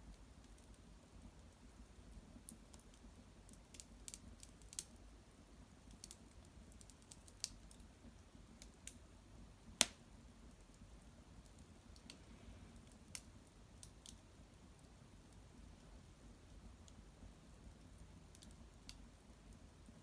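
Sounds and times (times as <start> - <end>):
hearth fire crackling: 0.0 - 20.0.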